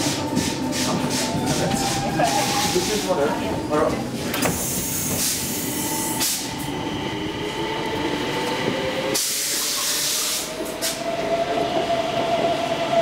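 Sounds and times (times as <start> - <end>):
metro train motor whine: 0.0 - 13.0.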